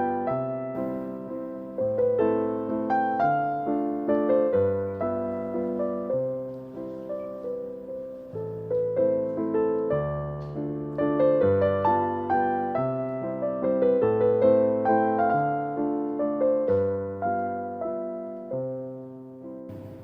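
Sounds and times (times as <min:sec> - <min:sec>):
slow gentle piano music: 0:00.0 - 0:20.0.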